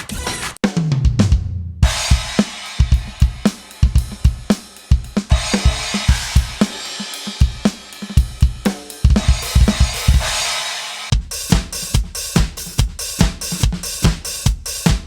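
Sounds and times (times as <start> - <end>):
electronic drum kit groove: 0.0 - 15.0.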